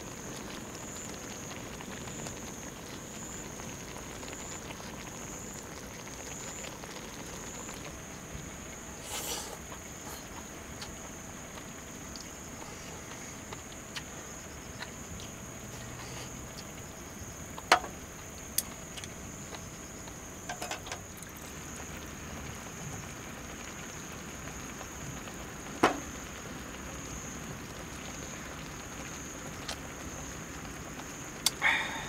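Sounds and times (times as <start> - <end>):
light rain pattering on tarp: 0.0 - 32.0.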